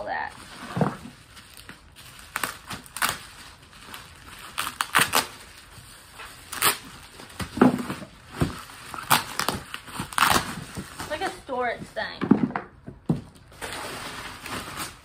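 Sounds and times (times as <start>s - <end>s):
packaging rustling: 0.0s - 11.4s, 13.2s - 15.0s.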